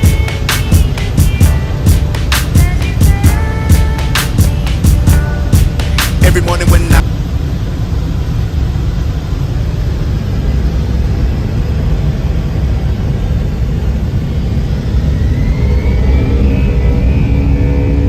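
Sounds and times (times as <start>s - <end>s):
jet engines rumbling with hiss: 0.0s - 18.0s
rising whine: 0.0s - 18.0s.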